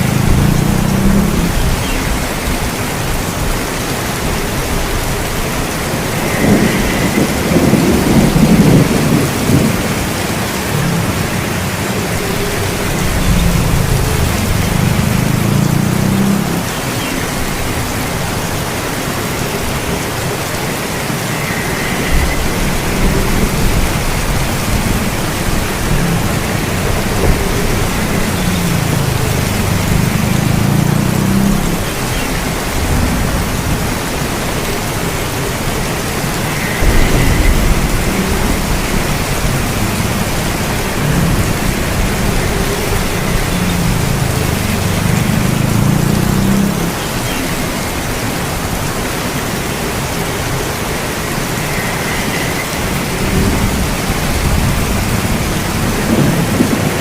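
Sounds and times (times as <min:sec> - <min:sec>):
thunder rumbling: 0:00.0 - 0:48.9, 0:49.5 - 0:57.0
heavy rain: 0:00.0 - 0:57.0.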